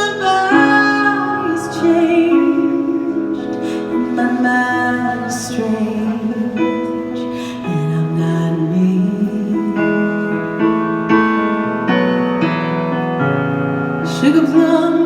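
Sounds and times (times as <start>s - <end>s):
keyboard chords: 0.0s - 15.0s.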